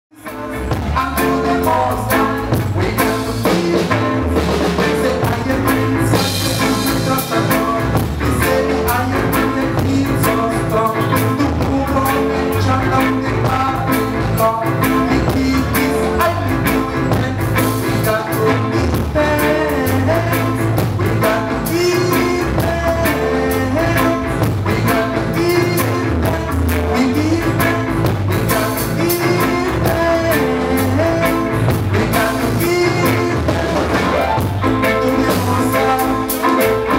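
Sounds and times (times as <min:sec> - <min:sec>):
bass guitar: 0:00.1 - 0:36.9
drum kit: 0:00.1 - 0:36.9
electric guitar: 0:00.1 - 0:36.9
keyboard: 0:00.1 - 0:36.9.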